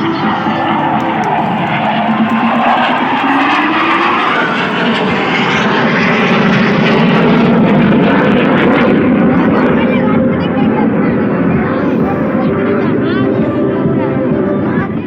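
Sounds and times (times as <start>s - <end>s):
jet aircraft roar: 0.0s - 15.0s.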